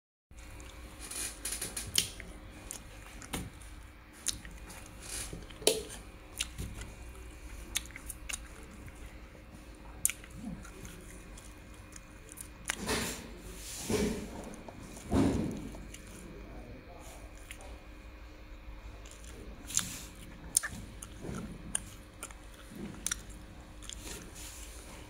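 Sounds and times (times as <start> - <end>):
low steady hum: 0.4 - 25.0.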